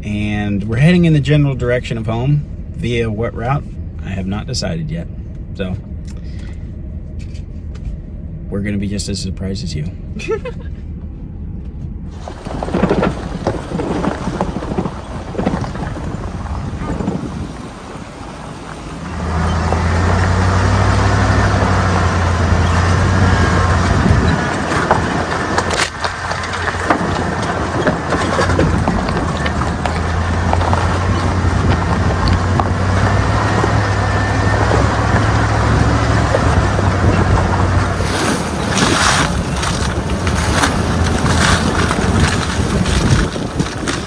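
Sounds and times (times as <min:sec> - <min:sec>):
tyre and road noise: 0:00.0 - 0:44.0
vehicle engine drone: 0:00.0 - 0:44.0.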